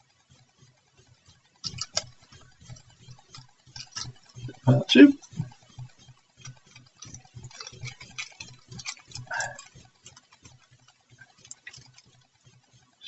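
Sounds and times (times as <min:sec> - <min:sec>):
plastic parts clicking and tapping: 0:01.6 - 0:12.2.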